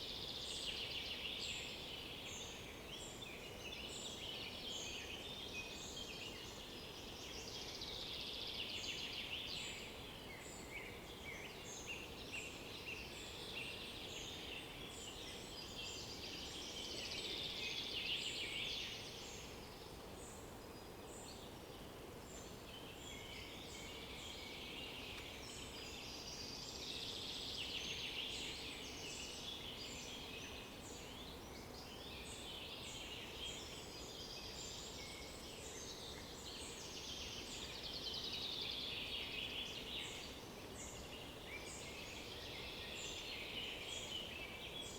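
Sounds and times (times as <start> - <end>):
faint background hiss: 0.0 - 44.9
songbirds singing: 0.0 - 44.9.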